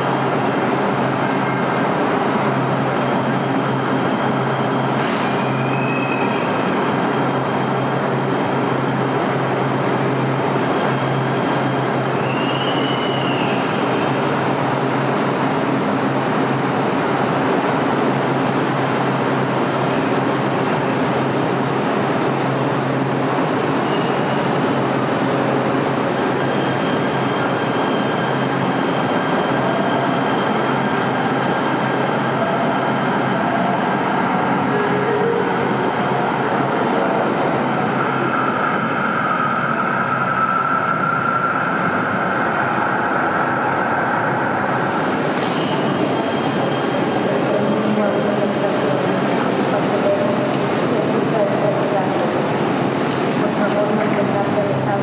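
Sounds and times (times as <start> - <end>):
light rail train rumbling: 0.0 - 55.0.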